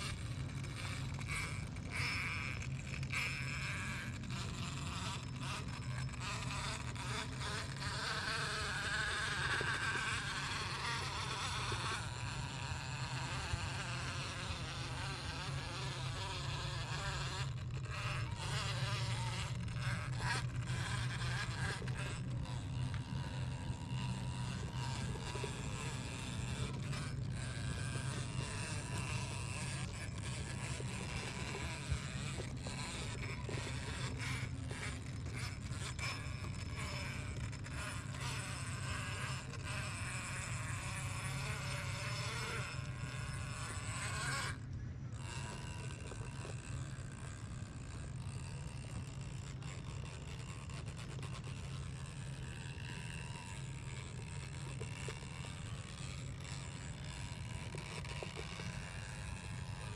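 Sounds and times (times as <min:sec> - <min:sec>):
electric motor buzzing: 0:00.0 - 0:59.9.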